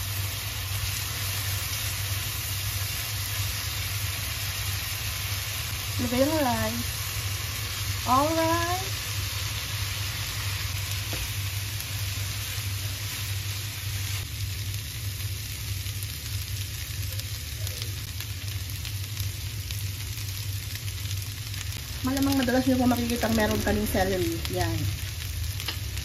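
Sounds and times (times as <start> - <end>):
rice sizzling in a frying pan: 0.0 - 26.0.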